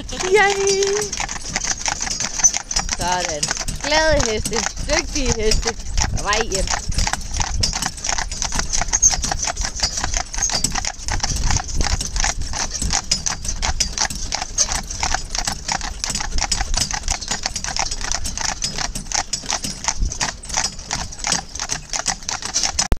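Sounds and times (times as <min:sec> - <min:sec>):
hooves trotting on pavement: 0:00.0 - 0:22.9.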